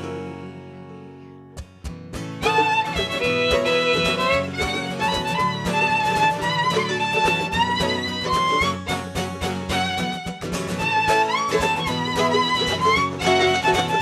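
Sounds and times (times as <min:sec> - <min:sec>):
strummed chords: 0:00.0 - 0:14.0.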